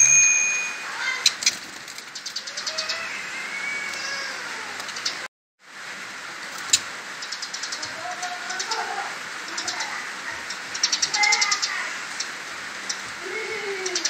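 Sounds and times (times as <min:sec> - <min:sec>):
steady hiss: 0:02.5 - 0:14.0.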